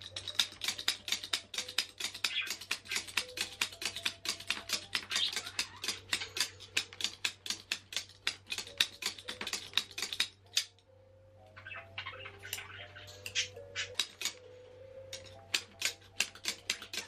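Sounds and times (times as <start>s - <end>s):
tufting tool clicking: 0.0s - 10.8s, 13.2s - 14.4s, 15.1s - 17.0s.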